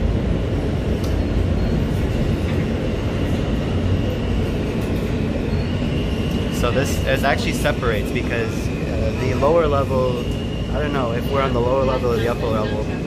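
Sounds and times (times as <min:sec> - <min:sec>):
subway car rumbling: 0:00.0 - 0:13.0.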